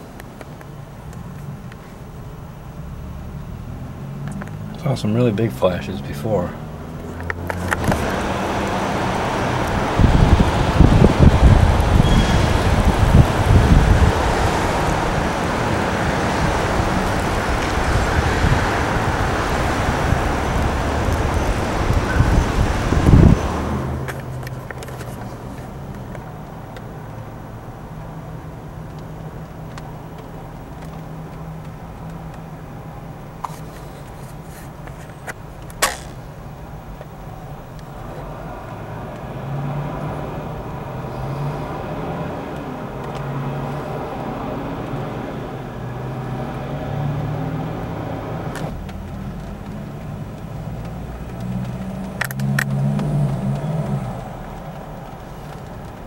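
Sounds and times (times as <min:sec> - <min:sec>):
road traffic hum: 0:00.0 - 0:56.0.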